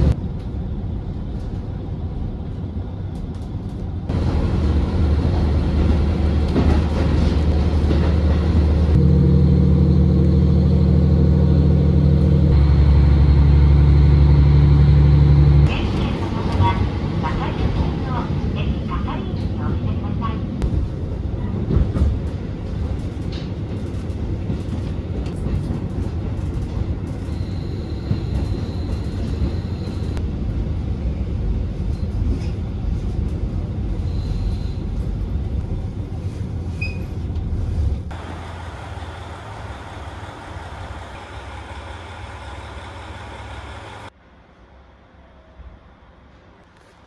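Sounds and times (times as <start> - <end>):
diesel railcar rumbling on rails: 0.0 - 47.0
railcar idling hum: 0.0 - 47.0.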